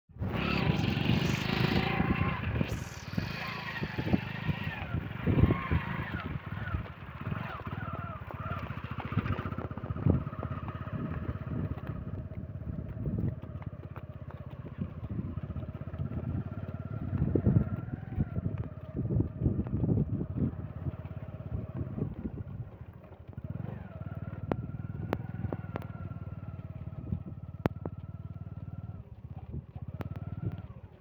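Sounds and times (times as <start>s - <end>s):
motorcycle engine running: 0.1s - 31.0s
wind buffeting microphone: 0.2s - 31.0s.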